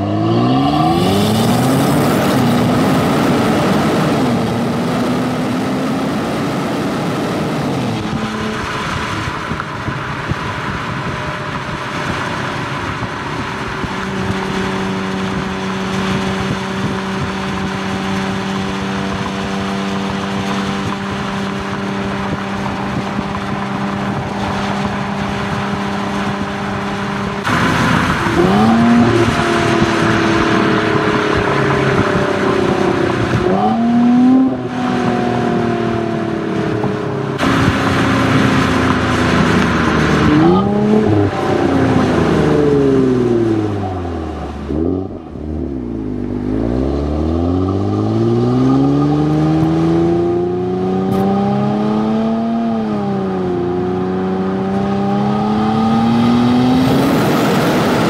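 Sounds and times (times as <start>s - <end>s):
car exhaust revving: 0.0s - 58.0s
tyre road noise: 0.0s - 58.0s
wind noise: 0.0s - 58.0s.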